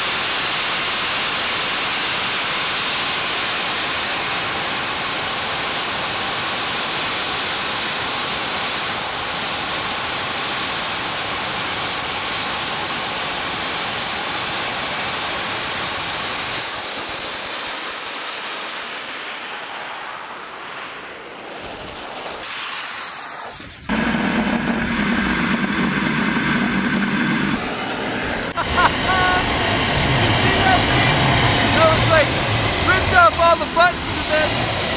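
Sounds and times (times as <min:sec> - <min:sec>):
small jet engine running: 0:00.0 - 0:34.9.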